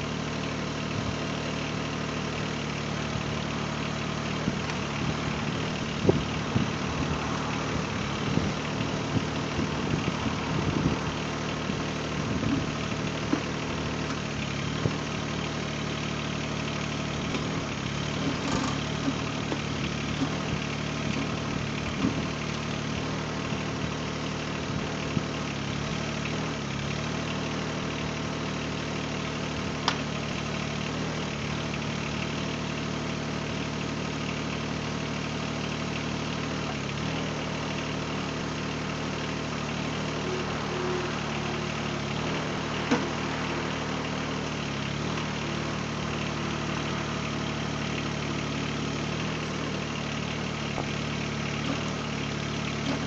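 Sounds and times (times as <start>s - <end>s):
tractor diesel engine running: 0.0s - 53.0s
backhoe knocking and clanking: 4.3s - 32.6s, 35.6s - 53.0s.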